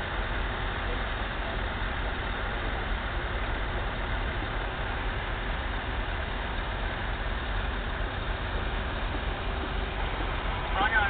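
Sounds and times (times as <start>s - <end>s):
harvester engine and machine noise: 0.0s - 11.0s.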